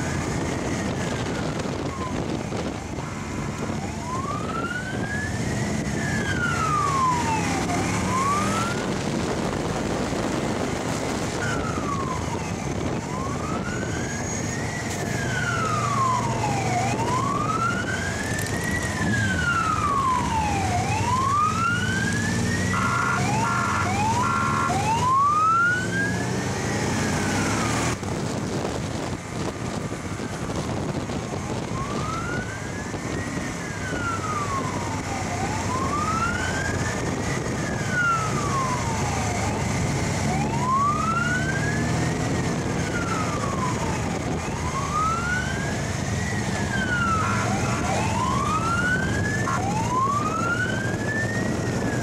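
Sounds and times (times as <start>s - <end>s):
motorcycle engines humming: 0.0s - 52.0s
wailing siren: 0.0s - 52.0s
wind: 0.0s - 52.0s.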